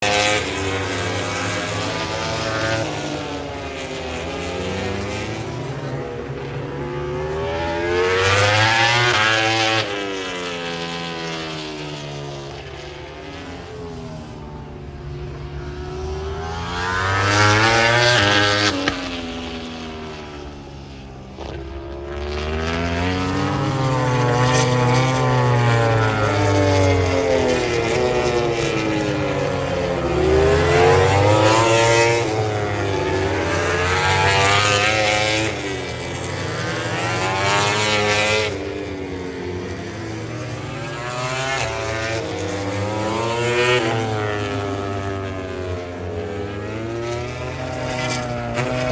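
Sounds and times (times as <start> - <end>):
racing motorcycles passing at speed: 0.0 - 48.9.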